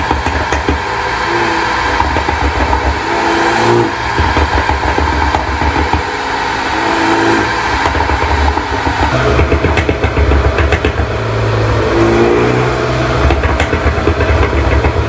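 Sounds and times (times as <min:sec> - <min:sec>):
car engine revving: 0:00.0 - 0:15.0
exhaust crackling and popping: 0:00.0 - 0:15.0.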